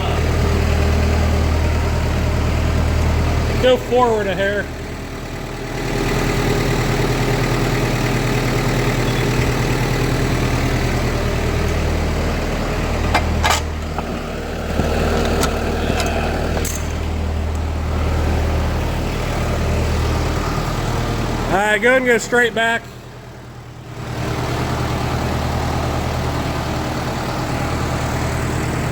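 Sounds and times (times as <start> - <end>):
diesel engine under load: 0.0 - 28.9.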